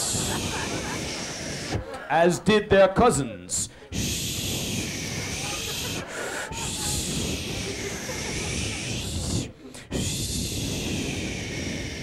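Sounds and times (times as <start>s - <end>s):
steady hissing rustling noise: 0.0s - 12.0s.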